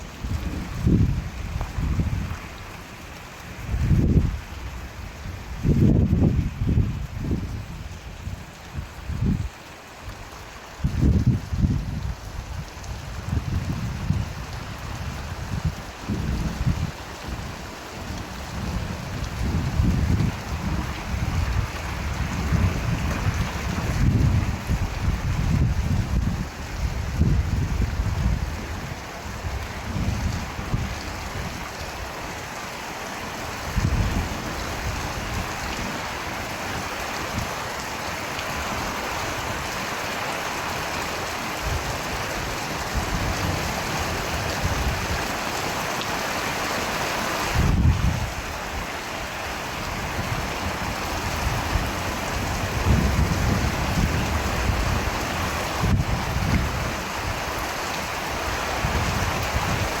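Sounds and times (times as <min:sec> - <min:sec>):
rain falling: 0:00.0 - 1:00.0.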